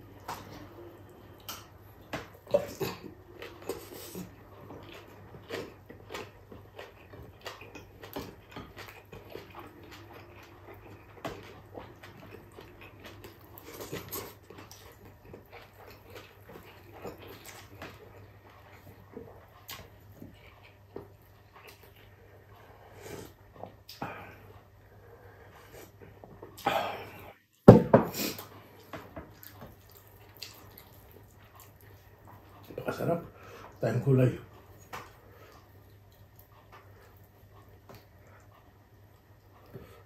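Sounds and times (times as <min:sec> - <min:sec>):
man chewing and lip-smacking: 0:00.1 - 0:27.4, 0:28.2 - 0:32.8, 0:34.5 - 0:40.0.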